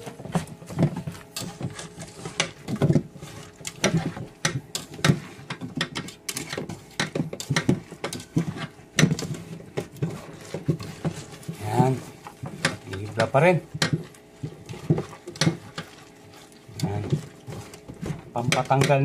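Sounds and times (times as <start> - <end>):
hands squishing wet vegetable: 0.0 - 19.0.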